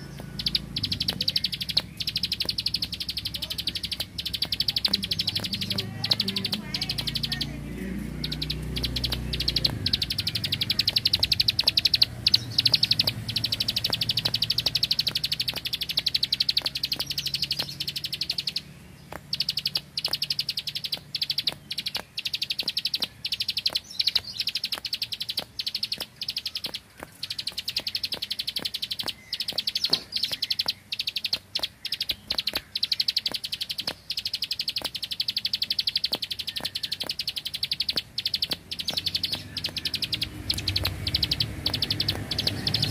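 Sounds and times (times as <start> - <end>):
bird singing rattling trills: 0.0 - 42.9.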